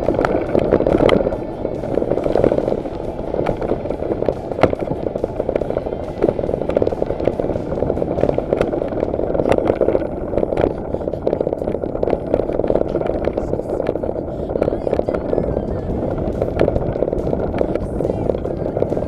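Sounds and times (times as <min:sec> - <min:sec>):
bike rattling over bumps: 0:00.0 - 0:19.0
tyres rushing over dirt: 0:00.0 - 0:19.0.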